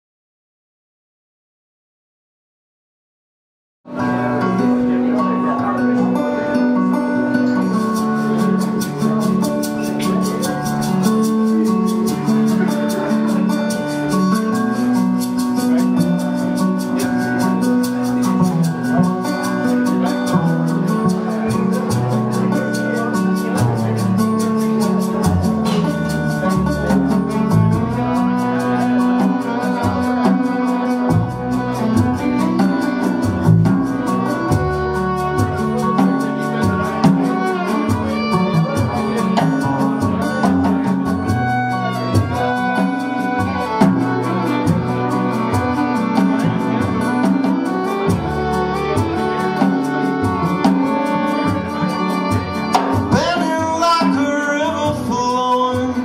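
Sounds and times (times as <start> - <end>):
fiddle: 3.9 - 56.0
strummed acoustic guitar: 3.9 - 56.0
upright bass: 3.9 - 56.0
drums: 7.6 - 56.0.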